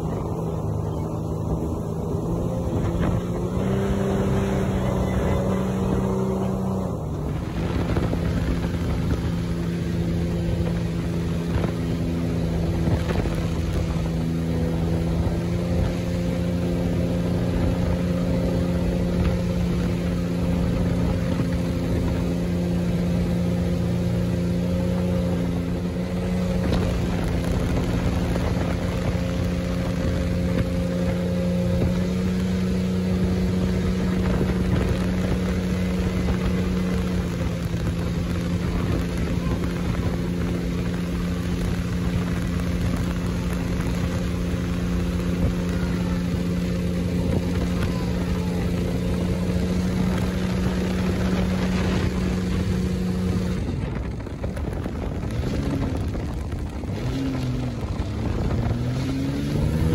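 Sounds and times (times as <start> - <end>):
boat engine running: 0.0 - 59.9
rushing water: 0.0 - 59.9
wind noise: 0.0 - 59.9.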